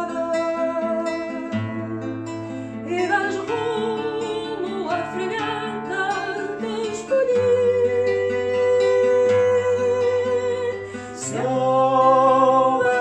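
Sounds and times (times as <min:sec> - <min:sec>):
plucked guitar: 0:00.0 - 0:13.0.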